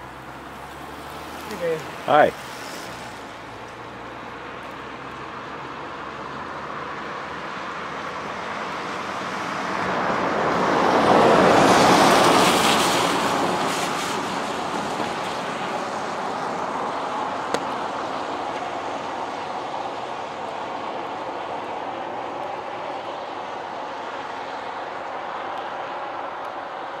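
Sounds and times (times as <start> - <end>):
tyres hissing on wet road: 0.0 - 27.0.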